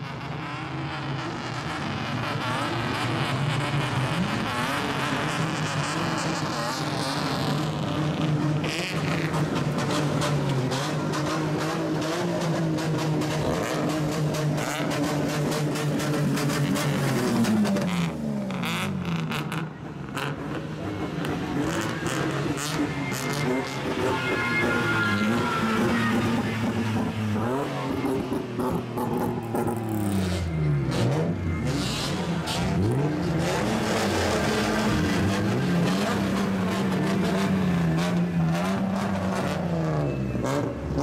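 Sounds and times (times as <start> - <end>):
cars revving past: 0.0 - 41.0.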